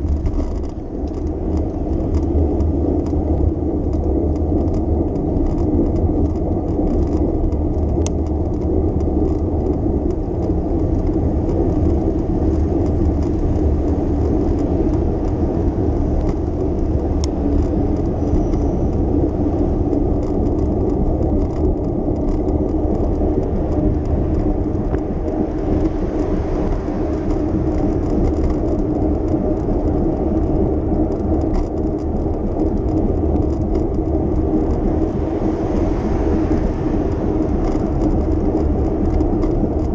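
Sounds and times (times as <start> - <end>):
bicycle rolling road noise: 0.0 - 39.9
faint ticks: 0.0 - 39.9
traffic: 0.0 - 39.9.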